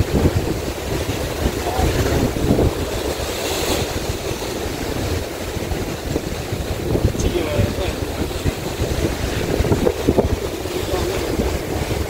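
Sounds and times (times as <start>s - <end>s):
boat noise: 0.0s - 12.0s
sea waves: 0.0s - 12.0s
wind buffeting microphone: 0.0s - 12.0s.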